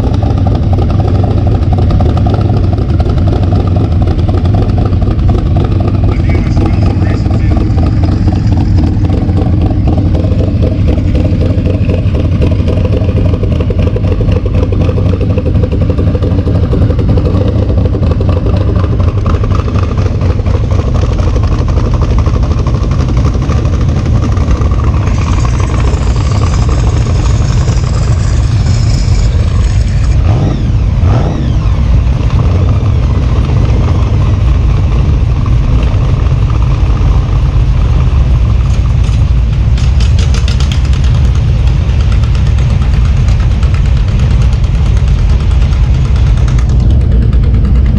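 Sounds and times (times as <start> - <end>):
vehicle engine running loud: 0.0 - 47.9.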